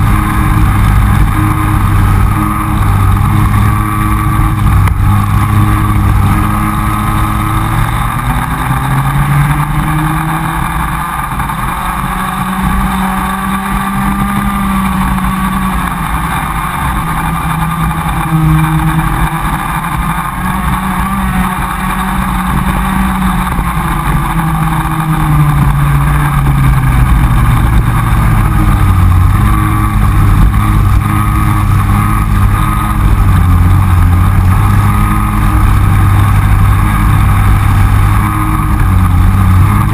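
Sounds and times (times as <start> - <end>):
kart engine racing: 0.0 - 39.9
other kart engines: 0.0 - 39.9.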